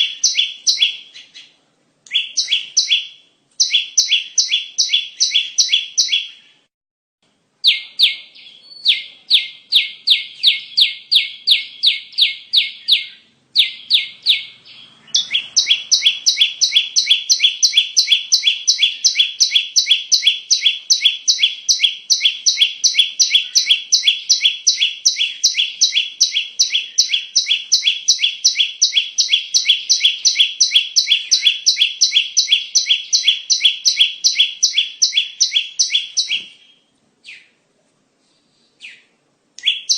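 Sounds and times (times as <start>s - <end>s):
recorded bird call sharp chirps: 0.0s - 6.7s, 7.6s - 37.6s, 38.2s - 39.9s.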